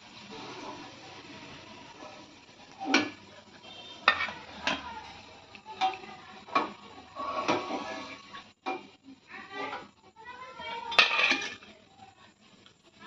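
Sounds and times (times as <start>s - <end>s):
frying oil sizzling: 0.0s - 13.0s.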